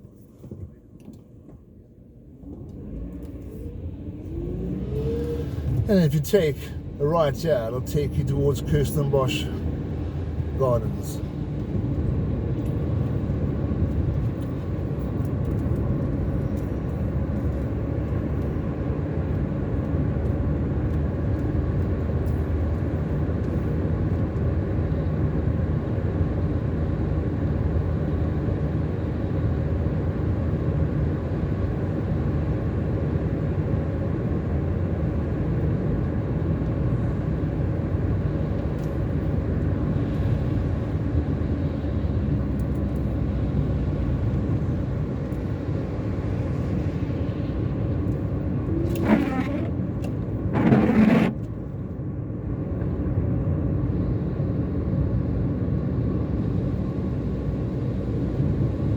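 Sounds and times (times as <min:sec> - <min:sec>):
car engine and road rumble: 0:00.0 - 0:58.9.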